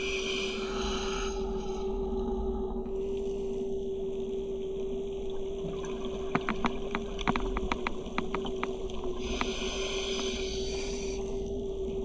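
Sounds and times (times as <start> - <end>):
underwater hum: 0.0 - 12.0.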